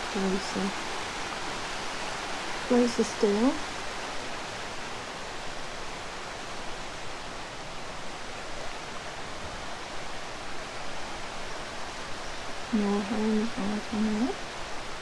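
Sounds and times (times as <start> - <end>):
river rushing over rocks: 0.0 - 13.6, 14.3 - 15.0.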